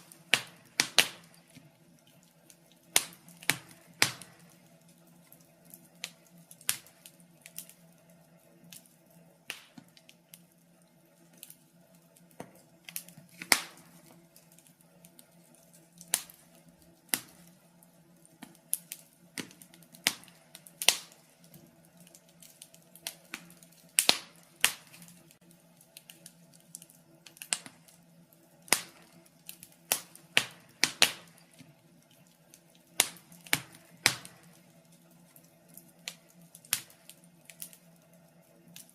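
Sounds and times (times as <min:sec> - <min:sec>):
faint steady hum: 0:00.0 - 0:38.9
wood fire crackling: 0:00.0 - 0:38.9.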